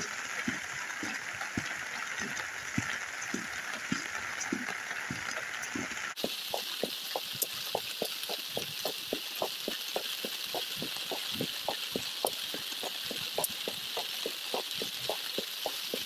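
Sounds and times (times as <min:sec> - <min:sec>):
rain tapping on umbrella: 0:00.0 - 0:16.0
rushing floodwater: 0:00.0 - 0:16.0.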